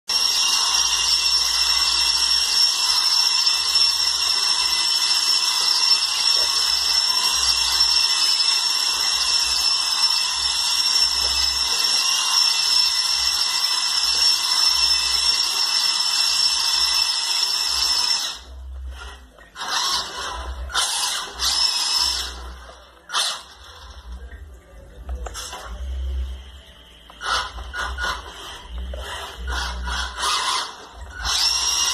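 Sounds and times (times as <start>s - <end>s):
electric motor whining: 0.1s - 24.2s, 27.1s - 31.9s.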